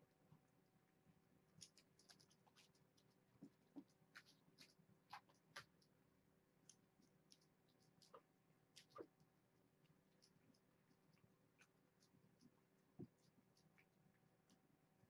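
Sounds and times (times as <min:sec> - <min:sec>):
faint steady hum: 0:00.0 - 0:15.0
kittens moving and eating: 0:00.0 - 0:15.0.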